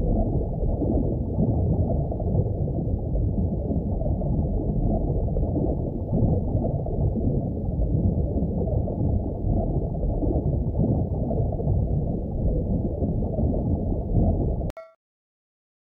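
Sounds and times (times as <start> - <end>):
muffled underwater rush: 0.0 - 14.7.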